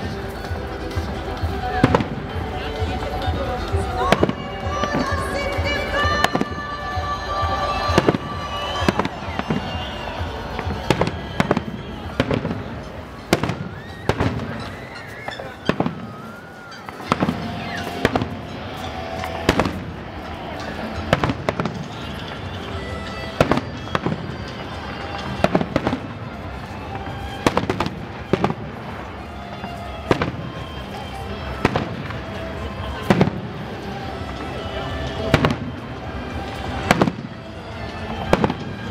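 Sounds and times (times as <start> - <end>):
fireworks exploding: 0.0 - 38.9.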